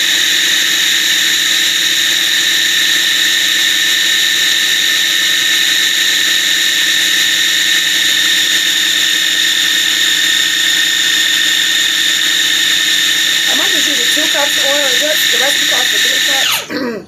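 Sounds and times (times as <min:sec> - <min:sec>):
food processor motor whining: 0:00.0 - 0:17.0.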